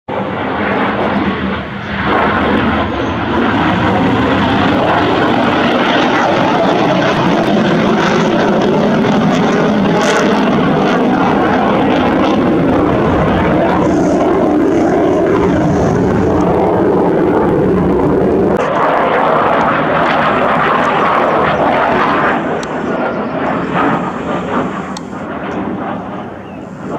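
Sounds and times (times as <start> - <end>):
jet fighter flying overhead: 0.1 - 26.9.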